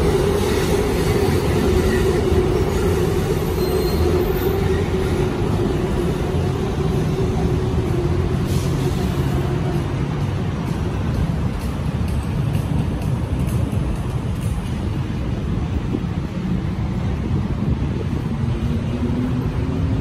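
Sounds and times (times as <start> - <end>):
city noise: 0.0 - 20.0
elevated train humming: 0.0 - 20.0.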